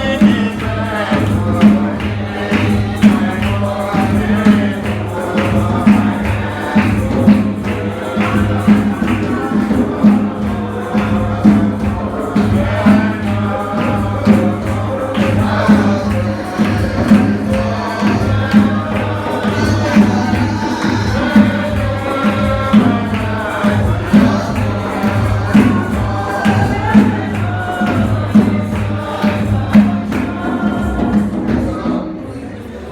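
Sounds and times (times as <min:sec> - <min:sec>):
steady beat: 0:00.0 - 0:31.6
tambourine: 0:00.0 - 0:32.0
voices singing together: 0:00.0 - 0:32.9.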